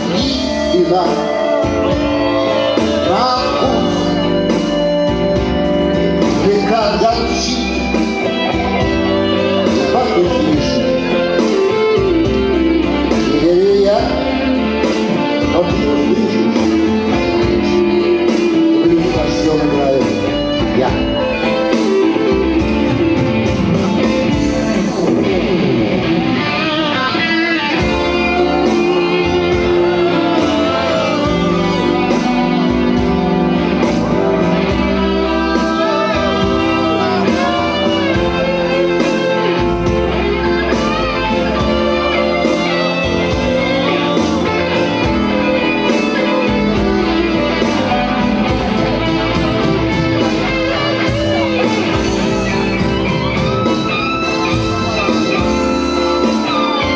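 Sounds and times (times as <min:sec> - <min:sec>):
slow blues guitar music: 0:00.0 - 0:56.9.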